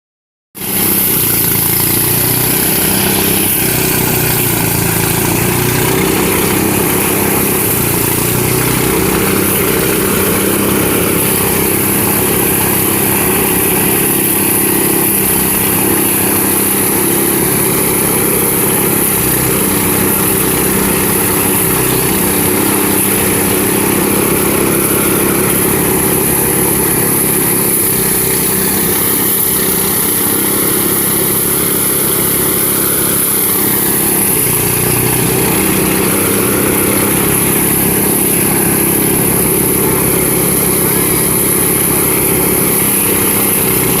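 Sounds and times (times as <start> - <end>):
small engine humming: 0.6 - 44.0.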